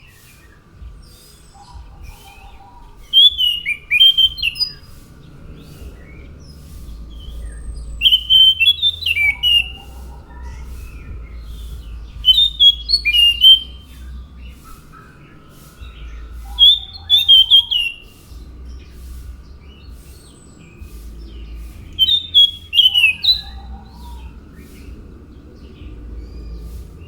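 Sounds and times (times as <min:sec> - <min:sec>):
faint steady hum: 0:00.0 - 0:27.0
thrush singing whistled notes: 0:00.0 - 0:27.0.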